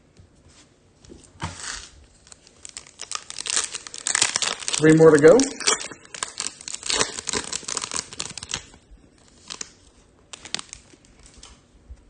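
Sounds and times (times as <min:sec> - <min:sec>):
foil wrapper crinkling and tearing: 0:01.6 - 0:11.6.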